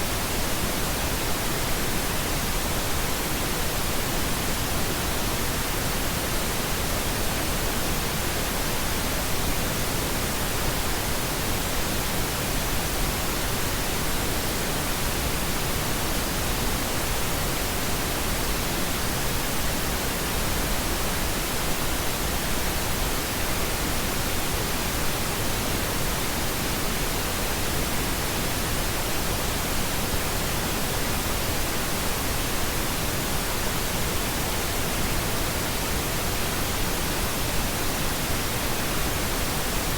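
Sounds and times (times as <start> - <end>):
steady pink noise: 0.0 - 39.9.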